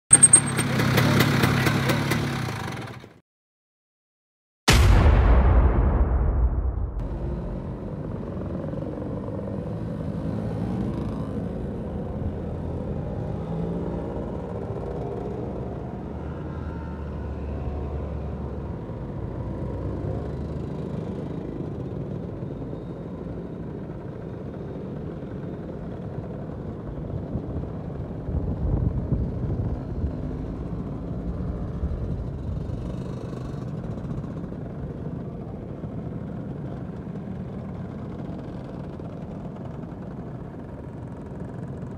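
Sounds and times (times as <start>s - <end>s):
scooters riding past: 0.2s - 3.2s, 8.4s - 41.9s.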